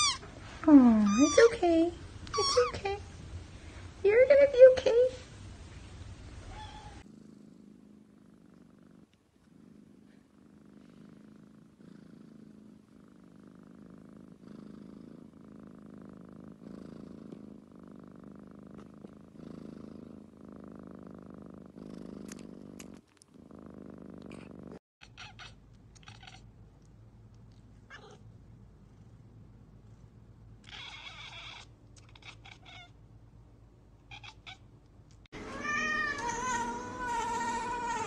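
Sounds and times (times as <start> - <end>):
cat purring: 0.5 - 33.2.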